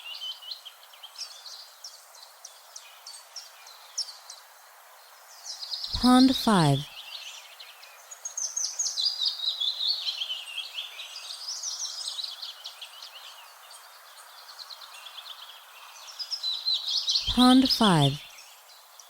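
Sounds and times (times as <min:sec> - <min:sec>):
small birds chirping and twittering: 0:00.0 - 0:06.0, 0:06.9 - 0:17.3, 0:18.1 - 0:19.0.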